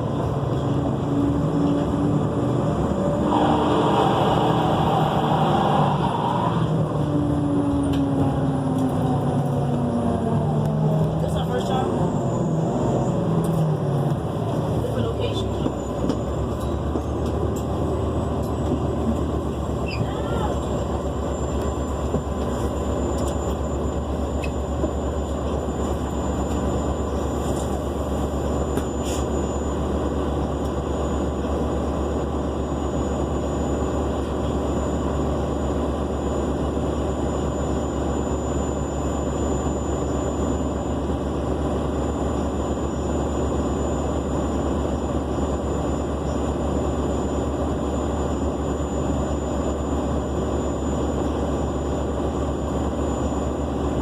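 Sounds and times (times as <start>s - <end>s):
bus engine and road rumble: 0.0s - 54.0s
high-pitched whine: 0.0s - 54.0s.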